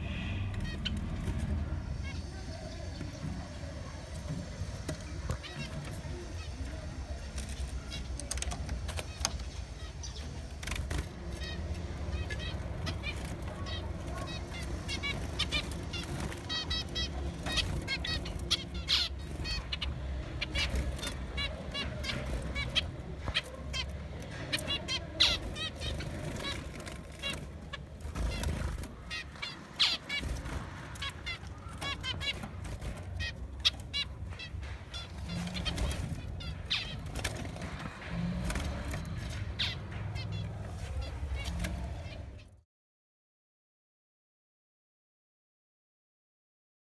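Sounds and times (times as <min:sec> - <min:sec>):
cage birds chirping: 0:00.0 - 0:42.6.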